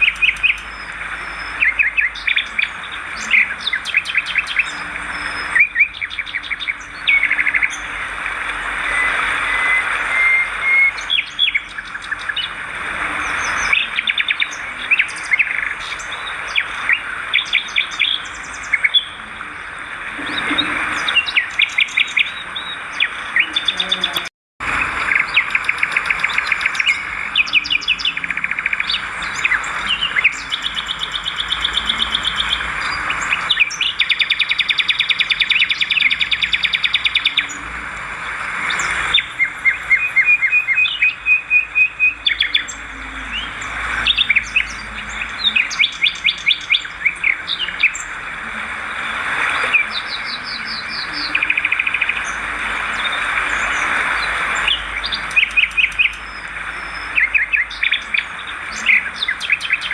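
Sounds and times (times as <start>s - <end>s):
swiftlets twittering: 0.0s - 59.9s.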